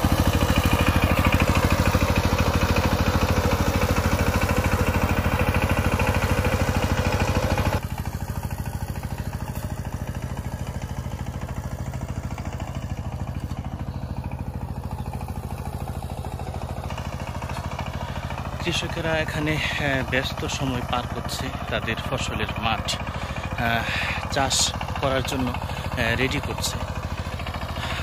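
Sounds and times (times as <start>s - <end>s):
power tiller diesel engine running: 0.0s - 28.0s.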